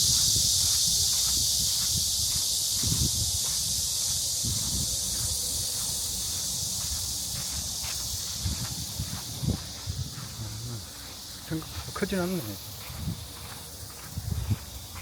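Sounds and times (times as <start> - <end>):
cicada chorus drone: 0.0 - 15.0.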